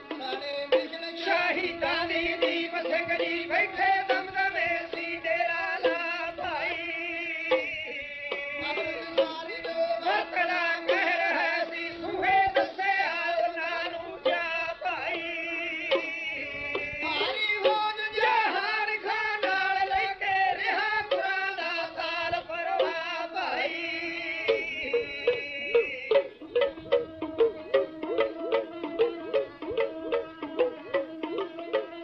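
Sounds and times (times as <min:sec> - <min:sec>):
instrumental accompaniment: 0:00.0 - 0:32.0
sung melody with heavy vibrato: 0:00.0 - 0:32.0.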